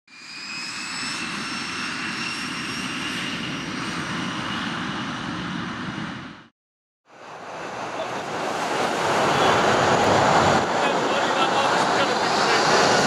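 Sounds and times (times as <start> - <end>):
jet engines running: 0.1 - 6.5, 7.1 - 13.0.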